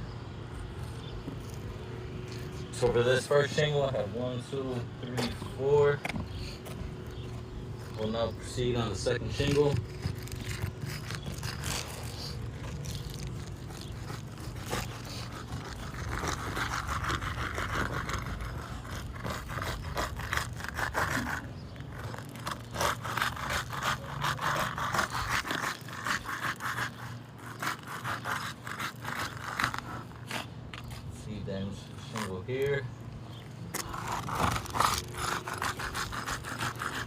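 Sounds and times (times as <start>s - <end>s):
steady low hum: 0.0s - 37.0s
roofing tool scraping shingles: 2.3s - 37.0s.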